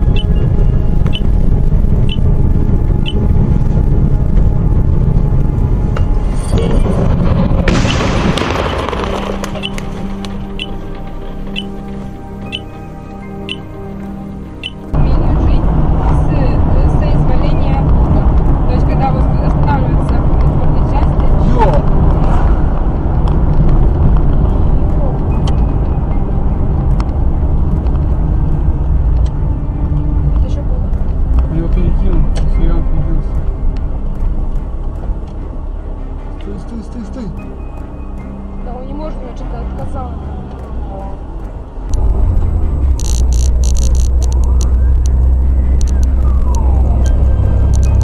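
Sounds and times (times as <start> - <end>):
car cabin road rumble: 0.0 - 36.8, 38.7 - 48.0.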